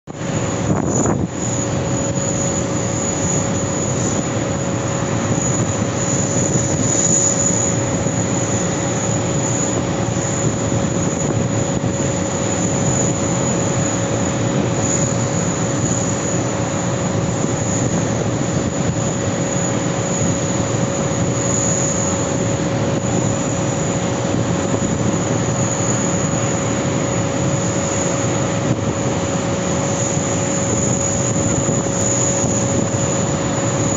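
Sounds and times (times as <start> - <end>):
jet engine whine: 0.0 - 33.9.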